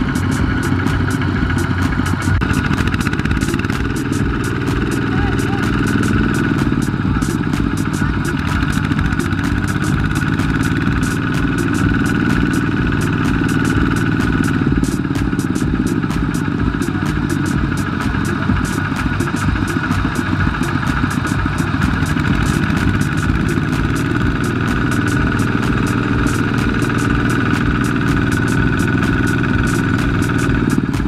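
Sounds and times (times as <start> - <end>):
diesel engine chugging: 0.0 - 31.0.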